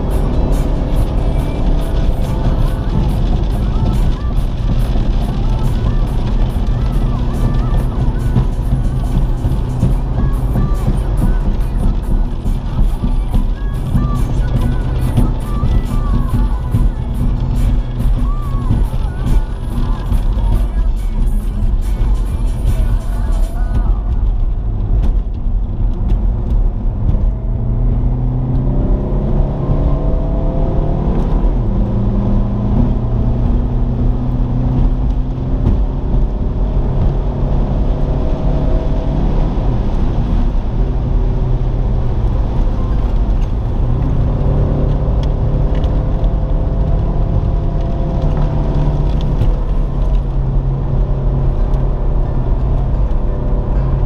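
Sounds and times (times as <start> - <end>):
car engine revving: 0.0 - 54.0
road and tyre rumble: 0.0 - 54.0.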